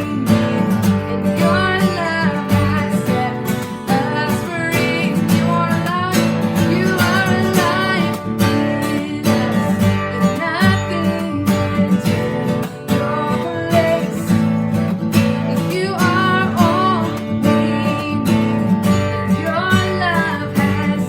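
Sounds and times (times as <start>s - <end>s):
worship music with strummed guitar: 0.0s - 21.0s.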